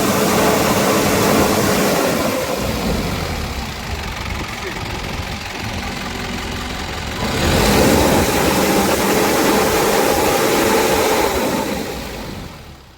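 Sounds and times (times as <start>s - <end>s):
truck engine idling: 0.0s - 12.9s.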